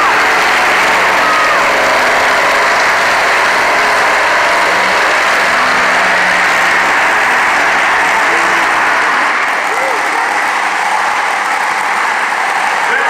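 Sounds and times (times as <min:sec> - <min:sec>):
truck engine running loud: 0:00.0 - 0:13.0.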